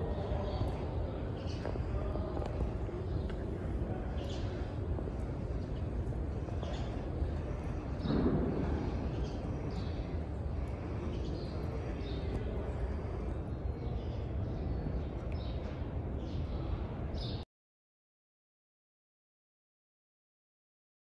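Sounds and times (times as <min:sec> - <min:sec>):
murmur of distant voices: 0:00.0 - 0:17.4
steady low hum: 0:00.0 - 0:17.4.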